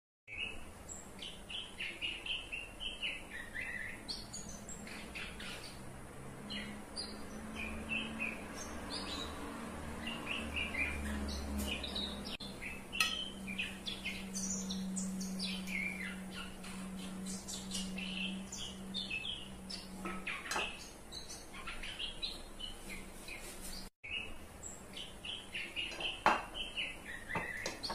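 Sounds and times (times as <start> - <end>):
small birds chirping: 0.3 - 27.9.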